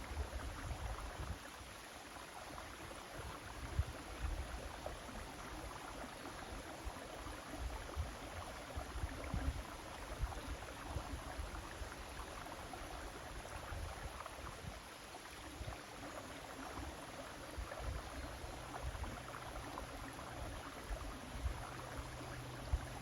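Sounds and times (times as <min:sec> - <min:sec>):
river water flowing: 0:00.0 - 0:23.0.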